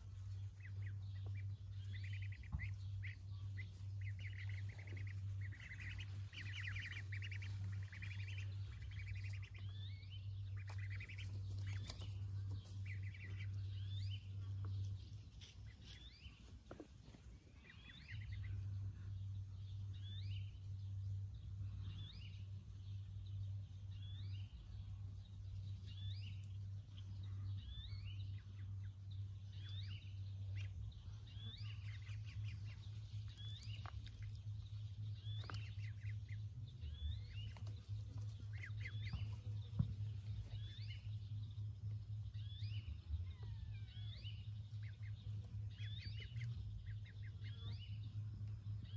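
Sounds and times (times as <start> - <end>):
ducklings peeping: 0.0 - 48.9
steady low hum: 0.0 - 48.9.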